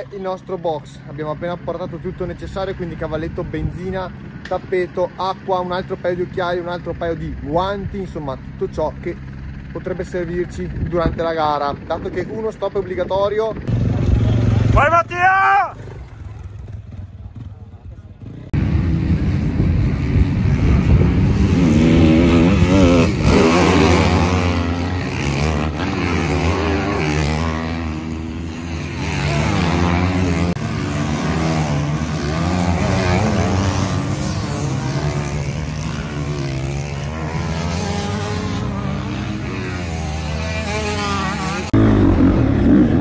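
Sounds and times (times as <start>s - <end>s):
motocross motorcycles revving: 0.0s - 43.0s.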